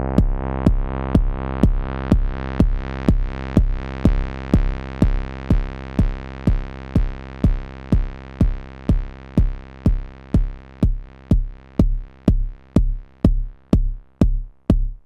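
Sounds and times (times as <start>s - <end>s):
drum machine kick: 0.0s - 15.0s.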